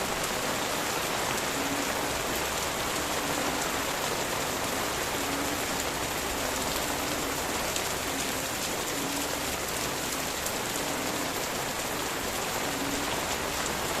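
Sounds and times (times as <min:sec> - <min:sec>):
rain falling on leaves: 0:00.0 - 0:14.0.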